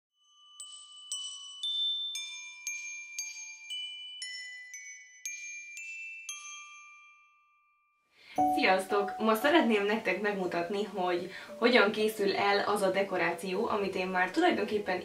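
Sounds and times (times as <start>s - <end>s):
bell-like melody of struck notes: 0.2s - 10.1s, 11.3s - 15.0s.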